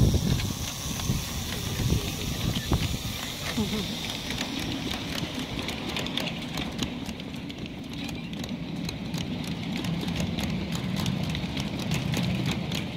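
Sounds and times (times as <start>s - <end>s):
miniature train rumbling: 0.0s - 12.9s
wheels clicking over rail joints: 0.0s - 12.9s.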